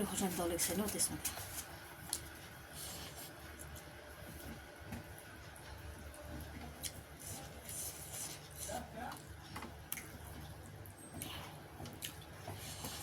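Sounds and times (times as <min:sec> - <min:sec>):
soft chewing: 0:01.2 - 0:13.0.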